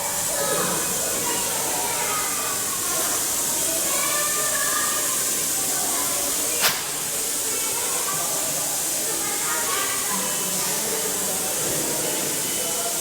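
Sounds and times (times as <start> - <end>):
faint voices: 0.0 - 13.0
steam hissing: 0.0 - 13.0.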